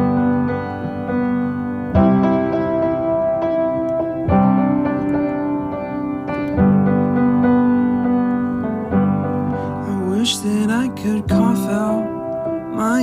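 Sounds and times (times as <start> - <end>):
sustained piano chords: 0.0 - 13.0.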